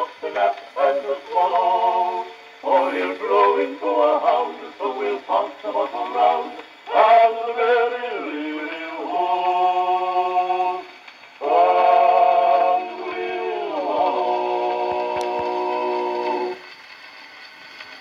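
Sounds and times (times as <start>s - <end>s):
male vocal quartet singing: 0.0s - 16.6s
record surface hiss: 0.0s - 18.0s.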